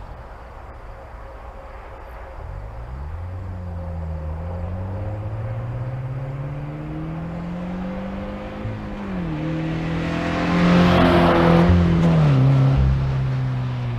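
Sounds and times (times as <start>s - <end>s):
car exhaust accelerating: 1.5s - 13.9s.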